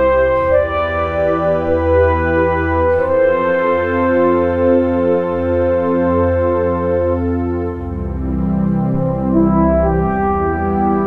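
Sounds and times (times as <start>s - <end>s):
slow held chords with bass: 0.0s - 11.0s.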